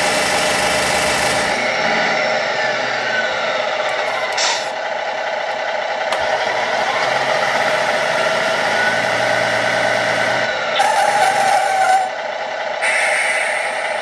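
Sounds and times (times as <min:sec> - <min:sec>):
simulated truck engine from speaker: 0:00.0 - 0:14.0.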